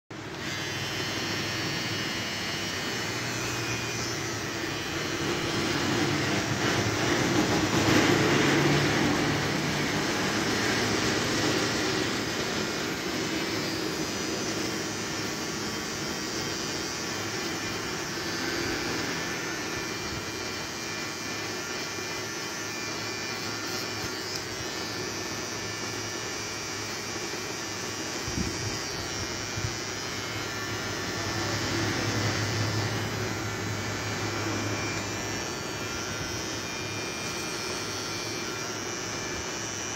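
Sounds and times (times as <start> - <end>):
electric beard trimmer buzzing: 0.1 - 39.9.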